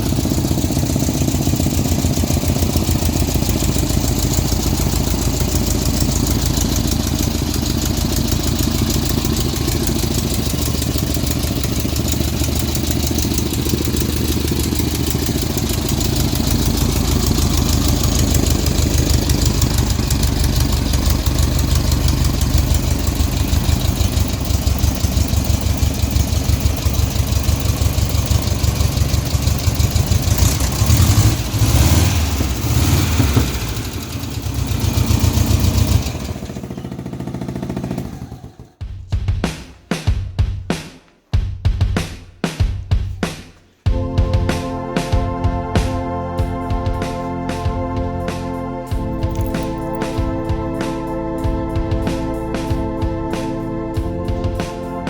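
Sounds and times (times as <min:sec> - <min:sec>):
small engine idling: 0:00.0 - 0:38.8, 0:43.9 - 0:55.0.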